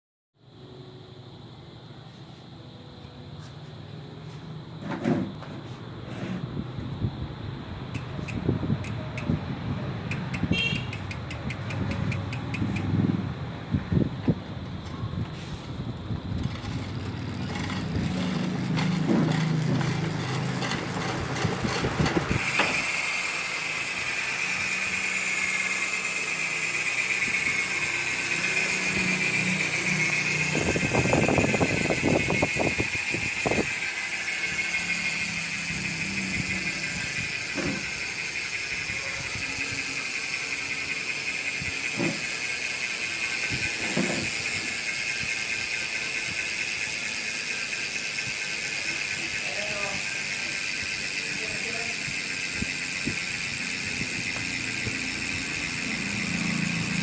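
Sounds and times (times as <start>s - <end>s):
bicycle hub freewheel clicking: 7.8s - 14.1s, 15.6s - 57.0s.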